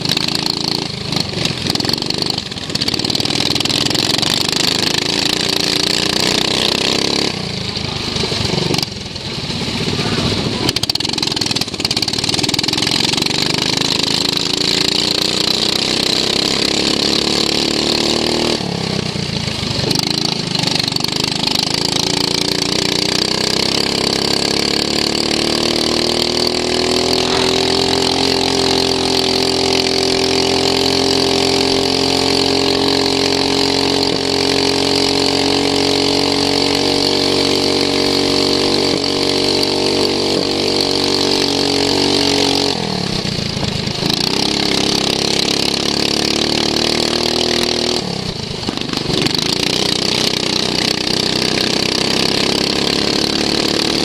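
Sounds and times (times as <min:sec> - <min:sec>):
lawn mower engine accelerating: 0:00.0 - 0:54.0.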